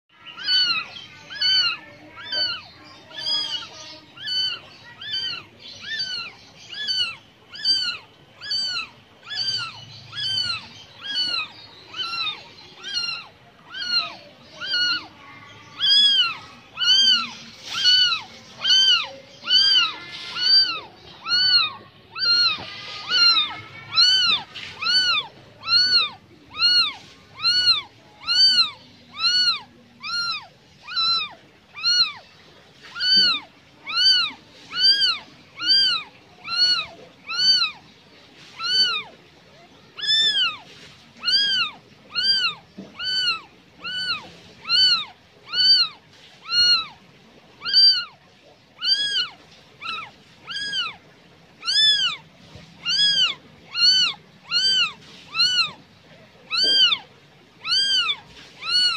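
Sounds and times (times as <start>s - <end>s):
kitten mewing: 0.2s - 37.8s, 38.6s - 39.1s, 39.9s - 47.0s, 47.6s - 48.2s, 48.8s - 51.0s, 51.6s - 55.8s, 56.4s - 58.9s.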